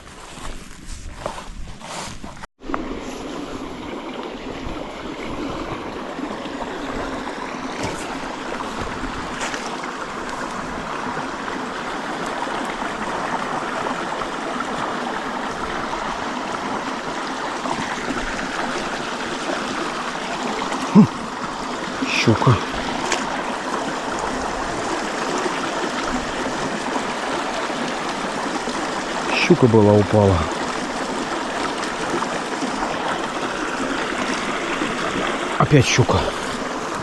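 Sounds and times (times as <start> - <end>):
stream flowing: 2.6 - 37.0.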